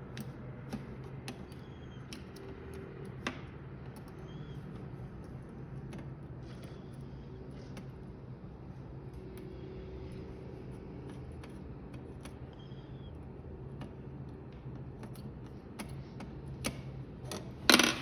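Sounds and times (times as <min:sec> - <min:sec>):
small clicks and taps: 0:00.0 - 0:18.0.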